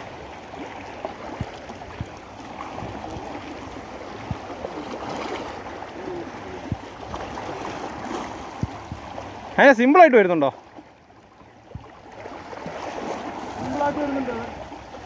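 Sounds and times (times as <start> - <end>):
waves lapping among rocks: 0.0 - 15.0.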